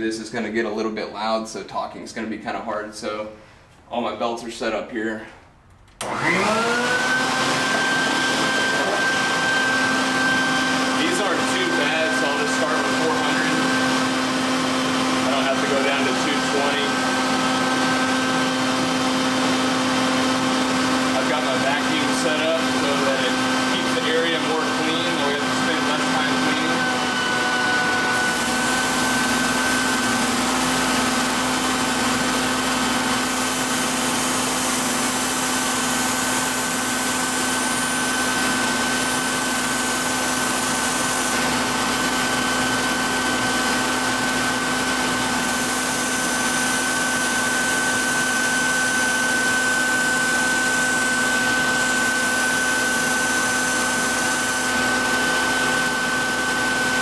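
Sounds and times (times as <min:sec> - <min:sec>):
vacuum hiss: 0:06.0 - 0:57.0.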